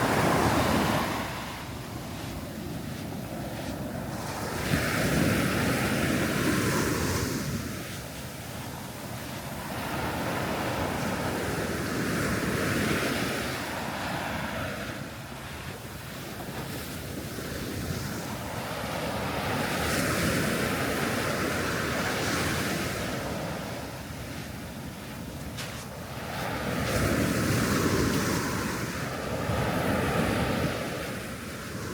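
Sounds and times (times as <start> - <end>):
sea waves breaking on shore: 0.0 - 31.9.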